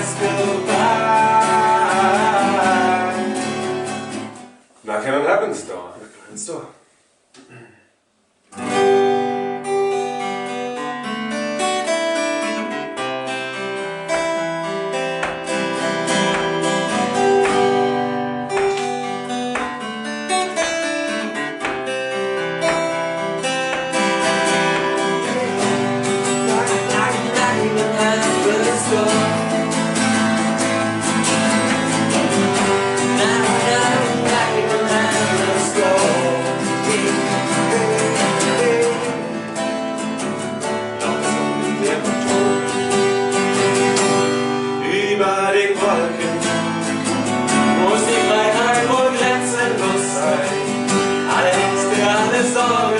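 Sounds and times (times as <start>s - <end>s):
acoustic guitars strumming chords: 0.0s - 5.0s, 8.5s - 52.9s.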